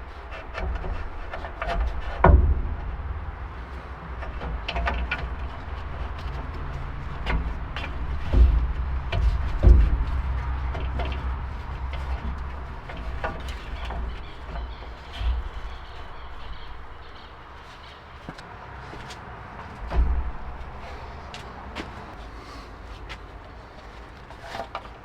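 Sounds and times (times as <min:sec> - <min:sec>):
steady low rumble: 0:00.0 - 0:23.9
knocks and clicks: 0:00.3 - 0:18.5, 0:19.6 - 0:22.0.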